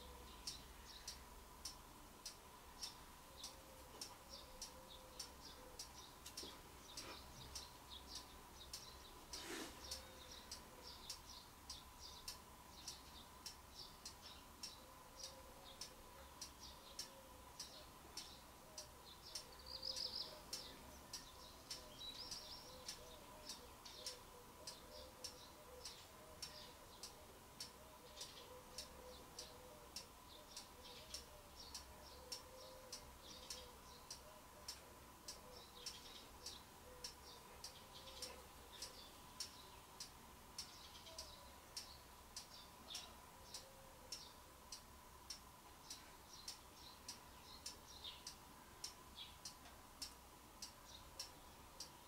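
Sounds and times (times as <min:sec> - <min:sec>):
faint bird chirping: 0:00.0 - 0:52.0.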